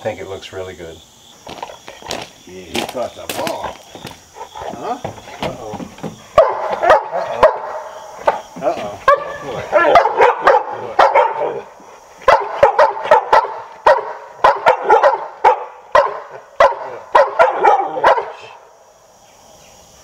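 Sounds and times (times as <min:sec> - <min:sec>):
dogs barking excitedly: 0:01.4 - 0:18.6.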